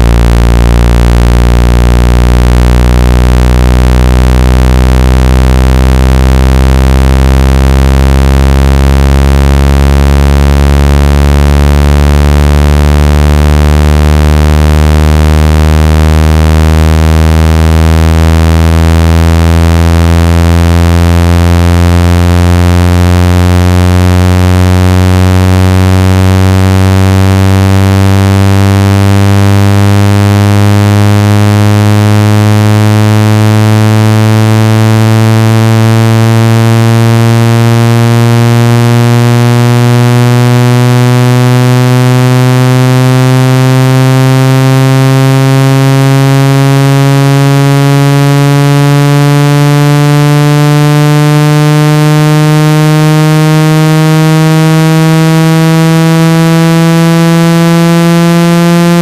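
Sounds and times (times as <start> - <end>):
buzzy tone sweeping upward: 0.0 - 59.0.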